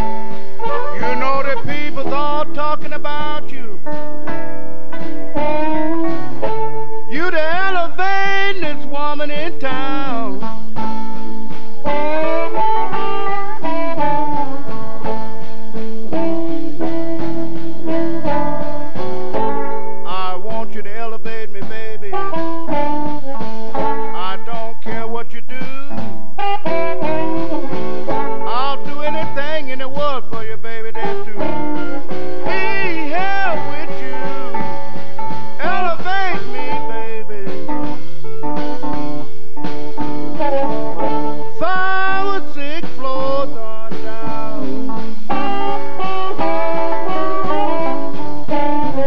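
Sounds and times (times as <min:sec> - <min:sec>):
bending electric guitar lead: 0:00.0 - 0:49.0
electric blues band playing: 0:00.0 - 0:49.0.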